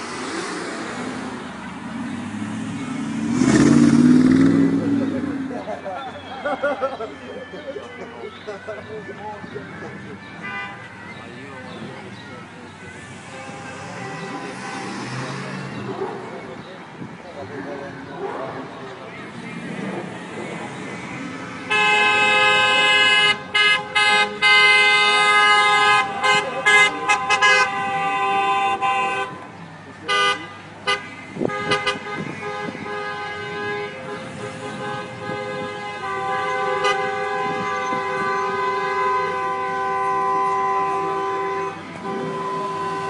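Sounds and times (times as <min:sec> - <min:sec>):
car horns honking: 0:00.0 - 0:16.5, 0:19.2 - 0:43.0.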